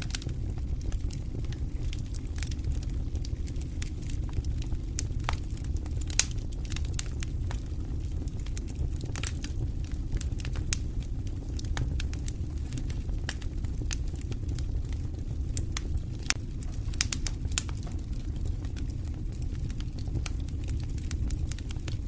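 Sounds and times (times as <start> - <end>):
fire crackling and popping: 0.0 - 22.0
wood fire burning: 0.0 - 22.0.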